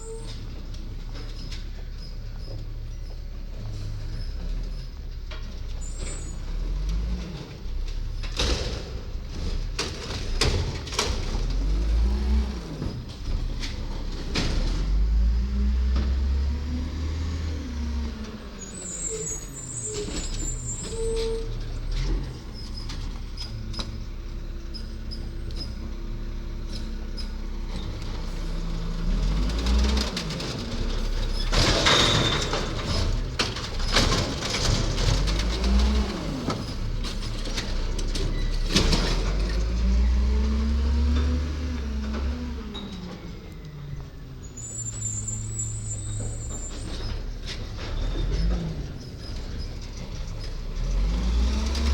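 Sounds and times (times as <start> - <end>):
garbage truck engine revving: 5.8 - 51.9.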